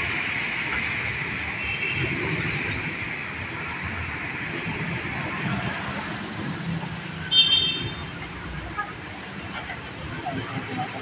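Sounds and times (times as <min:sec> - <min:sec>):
low traffic rumble: 0:00.0 - 0:11.0
passing vehicles rushing: 0:00.0 - 0:11.0.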